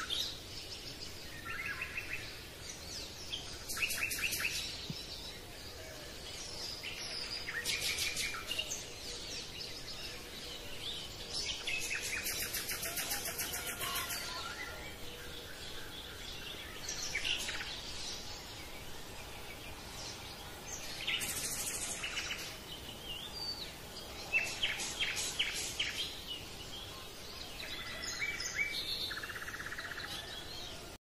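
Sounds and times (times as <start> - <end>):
steady hiss: 0.0 - 29.4
songbirds chirping: 0.0 - 31.0.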